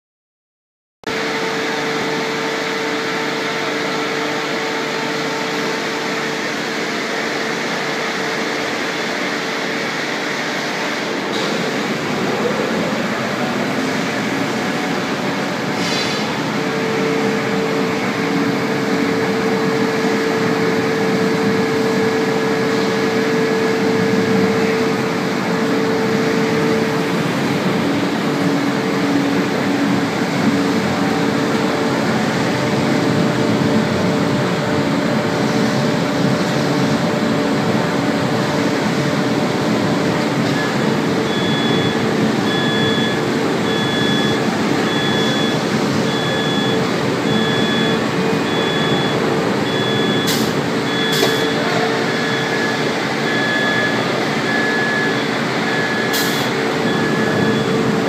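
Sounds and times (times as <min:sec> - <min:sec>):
waterjet cutter hissing: 0:01.1 - 0:58.0.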